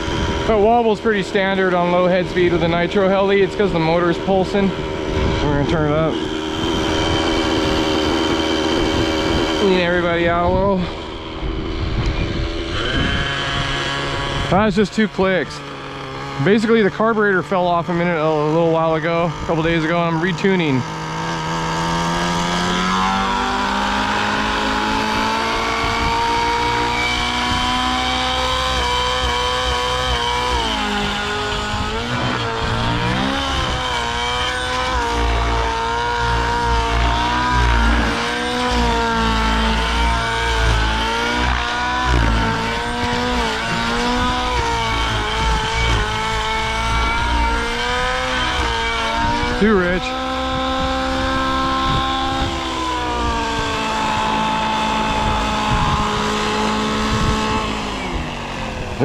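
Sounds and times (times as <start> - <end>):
model helicopter engine running: 0.0 - 59.0
rotor head spinning: 0.0 - 59.0.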